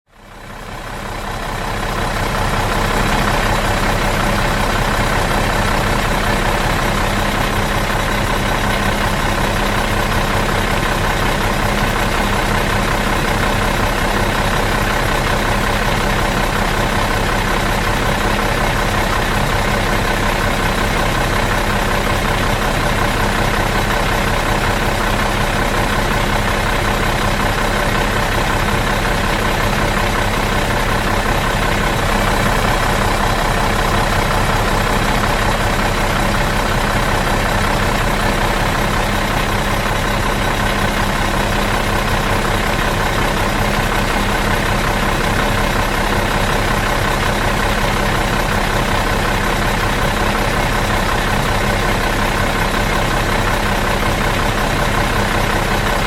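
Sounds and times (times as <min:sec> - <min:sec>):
bus engine idling: 0:00.1 - 0:56.0.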